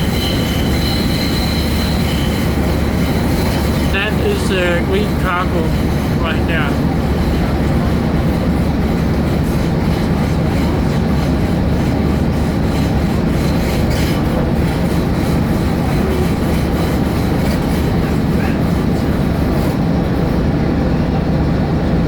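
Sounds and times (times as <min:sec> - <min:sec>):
wheels on rails: 0:00.0 - 0:20.4
diesel railbus engine rumble: 0:00.0 - 0:22.0.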